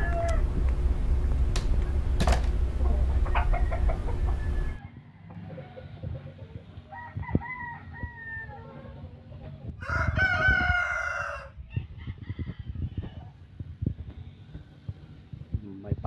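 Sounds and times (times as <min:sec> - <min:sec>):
roosters crowing: 0:00.0 - 0:13.6.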